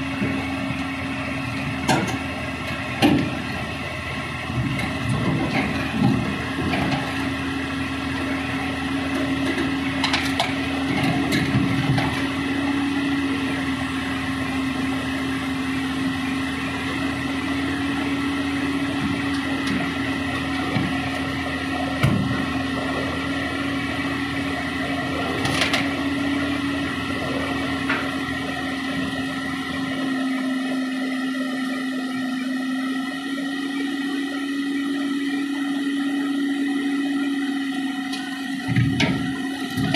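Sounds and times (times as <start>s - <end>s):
diesel engine running: 0.0s - 39.9s
steady whine: 0.0s - 39.9s.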